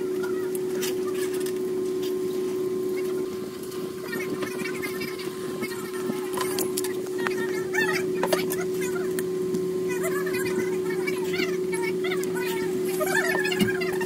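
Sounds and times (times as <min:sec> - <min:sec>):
steady tonal hum: 0:00.0 - 0:14.0.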